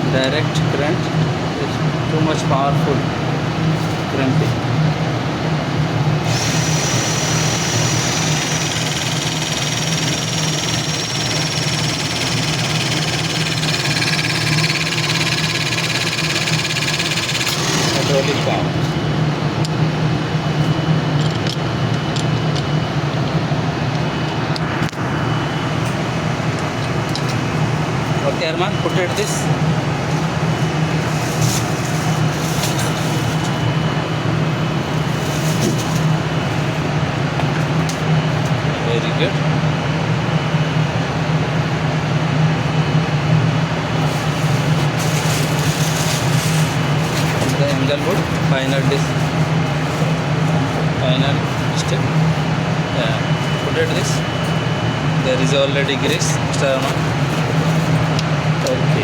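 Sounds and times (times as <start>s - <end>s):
pump motor drone with whine: 2.8s - 59.0s.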